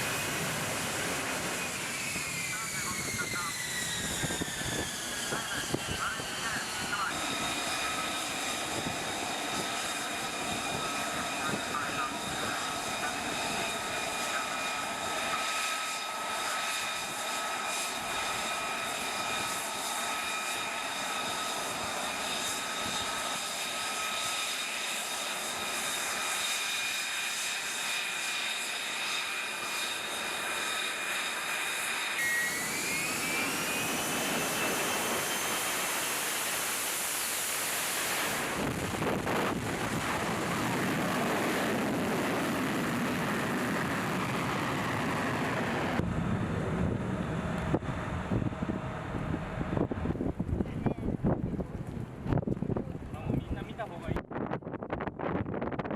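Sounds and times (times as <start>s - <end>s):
jet engine whine and rush: 0.0s - 55.9s.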